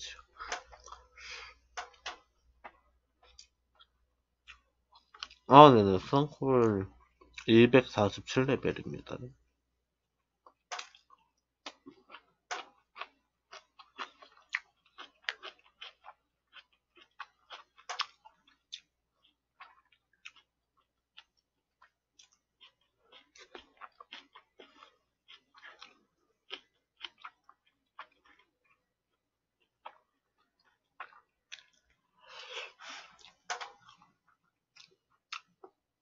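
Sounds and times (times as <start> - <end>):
person chewing food: 0.1 - 5.5, 6.8 - 7.5, 10.1 - 36.0.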